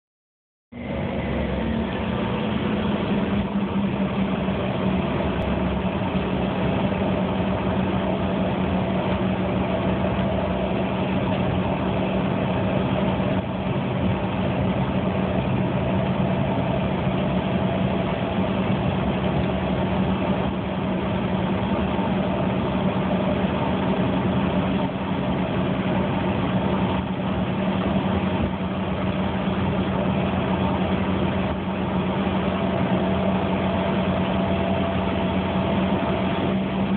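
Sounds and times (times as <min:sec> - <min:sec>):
jet engines humming in cabin: 0:00.7 - 0:36.9.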